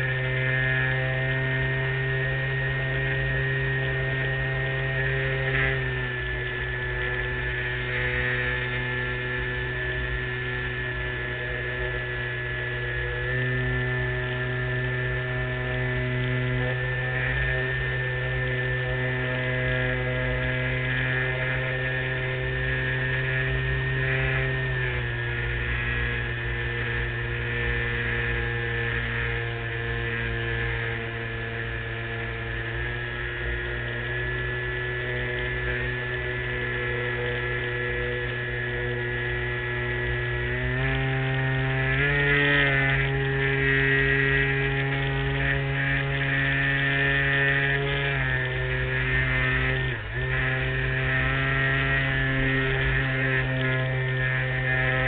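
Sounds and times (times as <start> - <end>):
model plane motor and propeller: 0.0 - 55.0.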